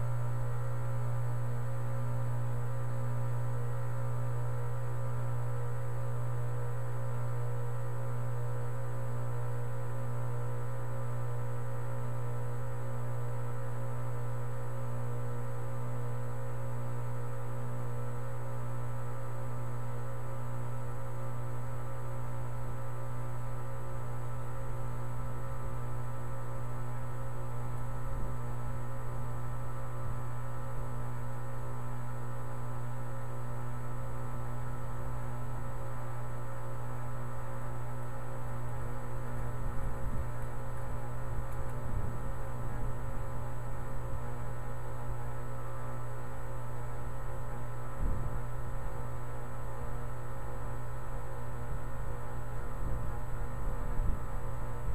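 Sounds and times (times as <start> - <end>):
heat pump humming: 0.0 - 54.9.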